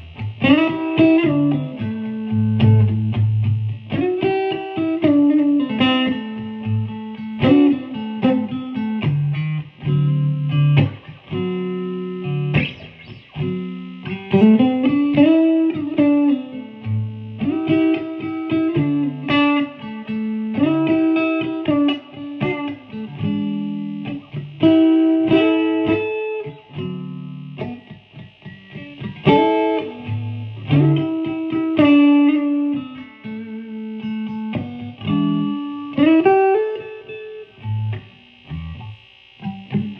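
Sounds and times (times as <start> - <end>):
clean electric guitar: 0.0 - 39.9.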